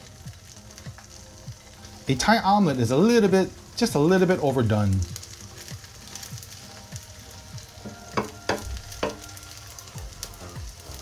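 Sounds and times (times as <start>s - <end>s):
eggs sizzling in oil: 0.0s - 11.0s.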